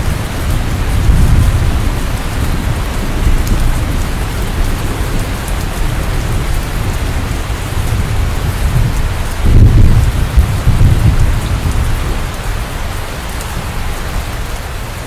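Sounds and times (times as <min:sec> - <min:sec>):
low rumble: 0:00.0 - 0:12.7
heavy rain: 0:00.0 - 0:15.0.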